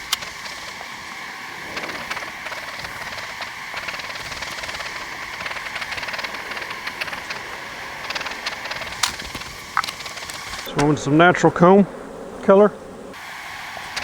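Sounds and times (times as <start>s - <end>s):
bees buzzing: 0.0s - 14.0s
hive frames clicking: 0.0s - 14.0s.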